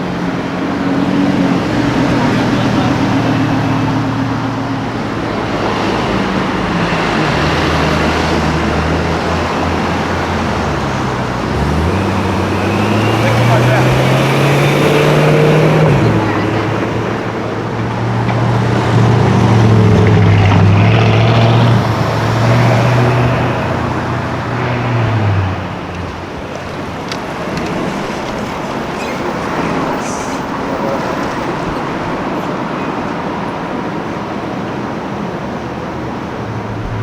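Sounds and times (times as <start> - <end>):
car passing by: 0.0 - 37.0
street traffic noise: 0.0 - 37.0.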